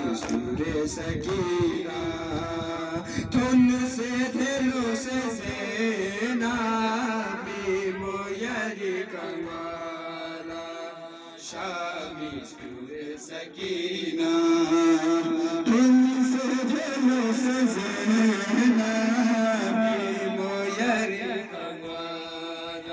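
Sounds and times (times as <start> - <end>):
man chanting a lament: 0.0 - 22.9.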